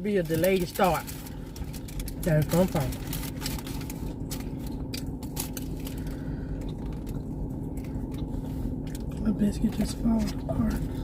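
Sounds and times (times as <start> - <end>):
food crackling and clicking: 0.0 - 11.0
low rumble inside a car: 0.0 - 11.0.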